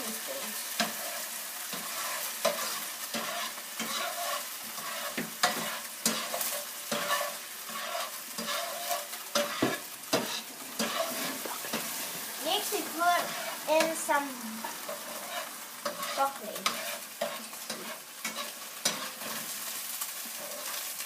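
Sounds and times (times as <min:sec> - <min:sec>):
steady sizzle: 0:00.0 - 0:21.0
utensil scraping a pan: 0:00.0 - 0:21.0.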